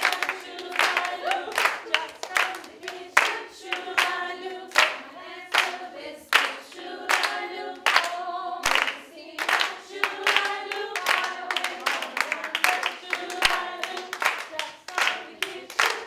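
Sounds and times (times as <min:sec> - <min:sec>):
hands clapping on a beat: 0:00.0 - 0:16.0
women singing together: 0:00.0 - 0:16.0.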